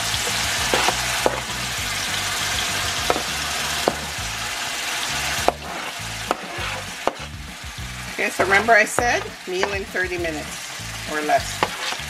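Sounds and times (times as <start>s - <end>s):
meat sizzling in a skillet: 0.0s - 12.0s
vegetables scraped into a pan: 0.1s - 1.7s, 2.3s - 10.0s, 10.9s - 12.0s.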